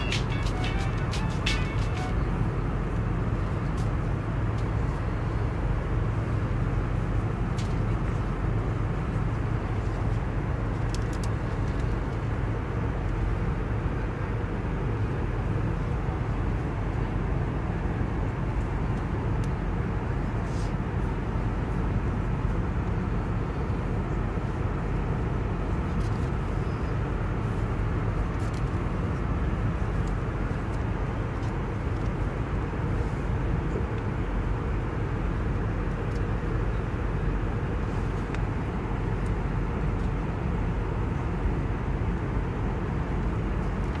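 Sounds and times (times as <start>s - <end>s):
airliner cabin engine roar: 0.0s - 44.0s.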